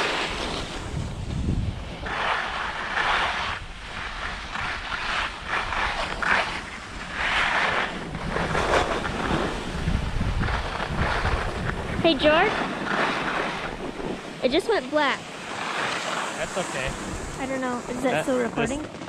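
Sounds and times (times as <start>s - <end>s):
skis scraping over snow: 0.0s - 18.9s
wind buffeting microphone: 0.0s - 19.0s.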